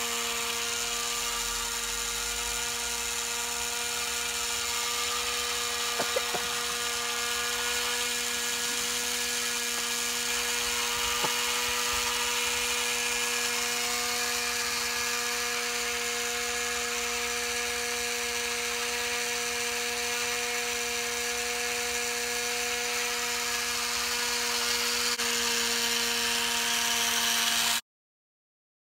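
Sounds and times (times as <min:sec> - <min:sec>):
small electric winch motor whining: 0:00.0 - 0:27.8.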